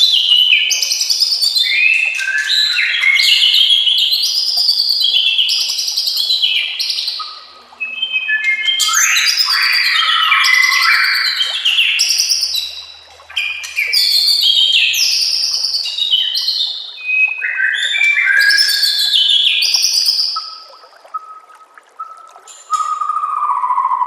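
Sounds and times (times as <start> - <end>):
bird singing whistles and trills: 0.0 - 24.0.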